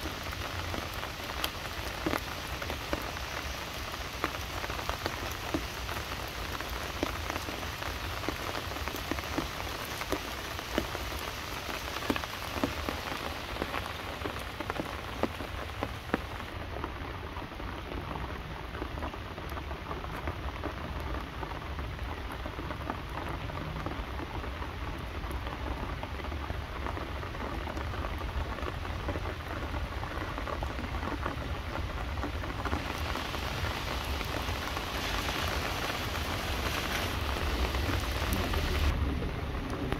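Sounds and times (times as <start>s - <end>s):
rain falling on leaves: 0.0s - 39.9s
rain on wet pavement: 0.0s - 39.9s.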